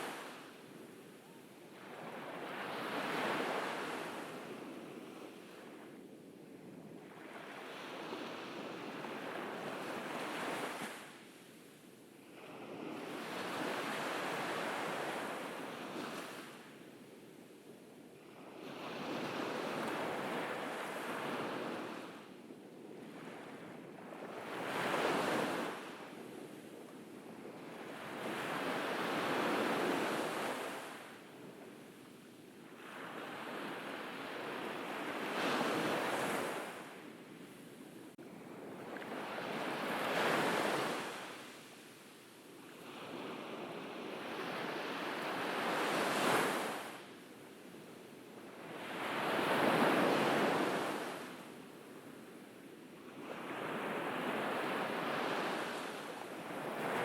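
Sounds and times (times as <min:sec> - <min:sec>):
ocean waves breaking on beach: 0:00.0 - 0:17.2, 0:18.1 - 0:22.4, 0:23.0 - 0:57.0.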